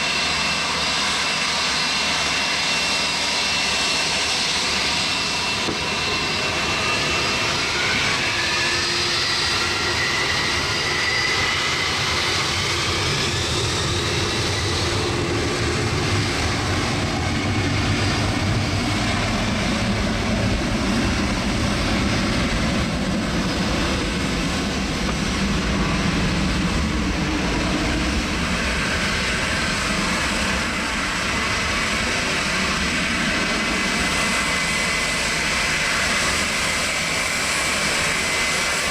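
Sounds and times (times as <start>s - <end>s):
jet engines roaring: 0.0s - 38.9s
rising engine whine: 0.0s - 38.9s.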